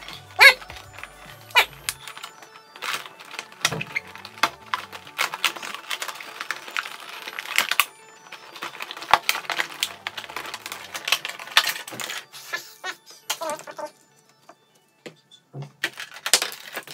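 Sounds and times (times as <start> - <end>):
plastic packaging crinkling: 0.0 - 13.9, 15.8 - 16.9.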